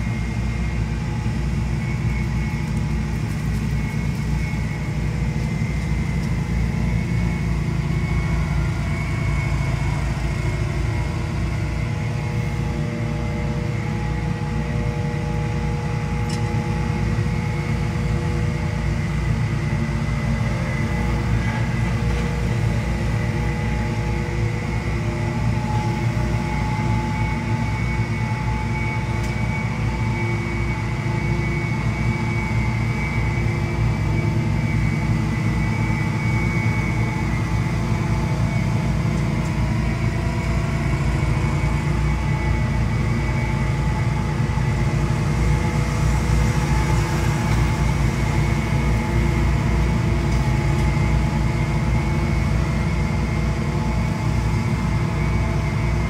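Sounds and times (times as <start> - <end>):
leaf blowers running: 0.0 - 56.0.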